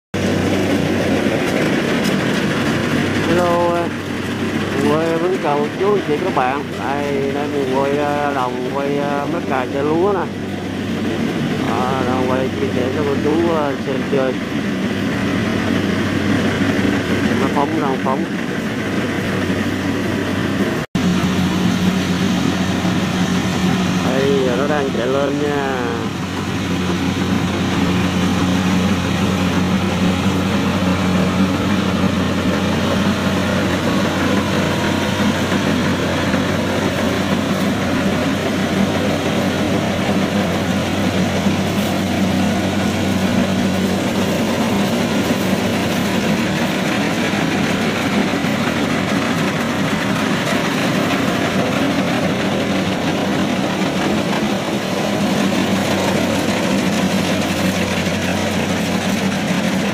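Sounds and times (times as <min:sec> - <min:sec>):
combine harvester engine drone: 0:00.1 - 0:59.9
rattle of threshing machinery: 0:00.2 - 0:59.9.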